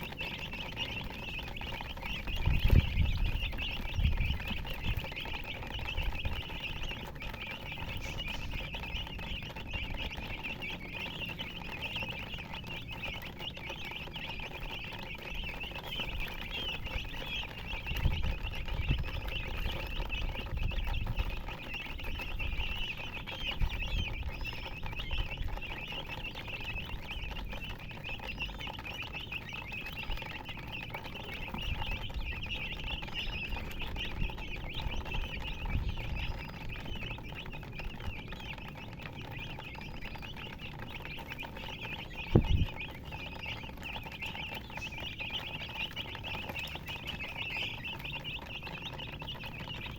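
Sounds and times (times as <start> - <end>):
baby chicks peeping: 0.0 - 49.9.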